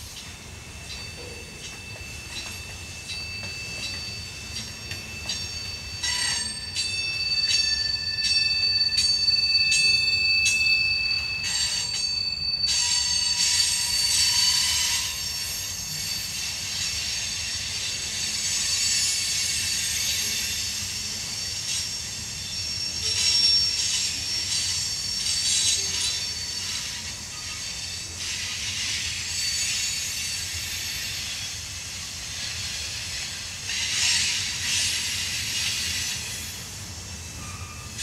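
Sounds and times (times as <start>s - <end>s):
train wheels squealing: 0.0s - 38.0s.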